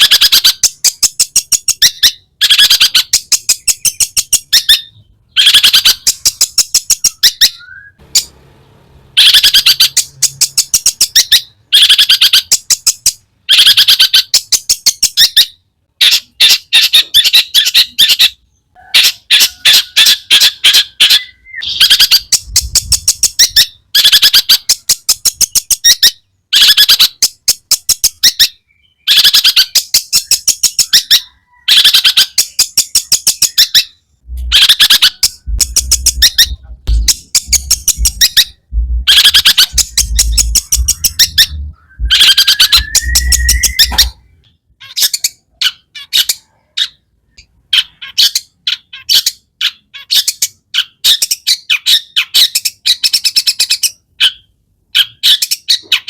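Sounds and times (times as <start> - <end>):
shrike chattering song: 0.0 - 46.5.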